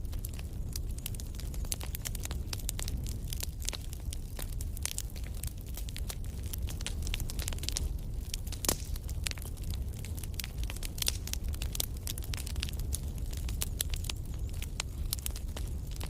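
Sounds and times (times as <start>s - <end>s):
campfire crackling: 0.0s - 16.0s
low steady fire rumble: 0.0s - 16.0s.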